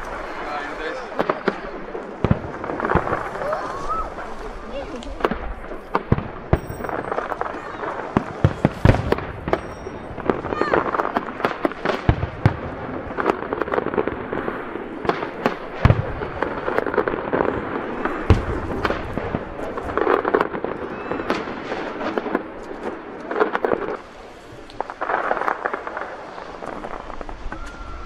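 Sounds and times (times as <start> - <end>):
deep firework booms: 0.0 - 28.0
firework pops and crackling: 0.0 - 28.0.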